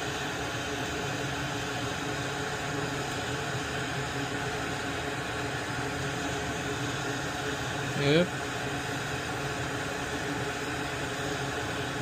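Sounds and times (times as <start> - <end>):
fan blowing air hiss: 0.0 - 12.0.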